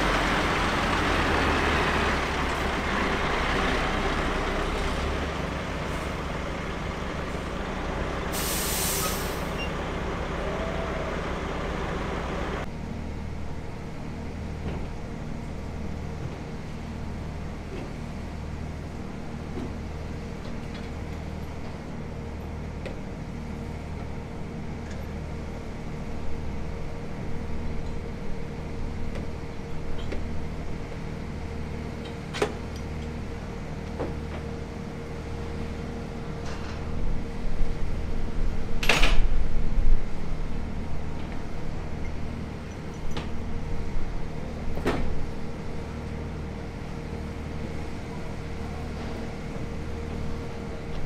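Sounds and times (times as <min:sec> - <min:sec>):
heavy engine running: 0:00.0 - 0:51.0.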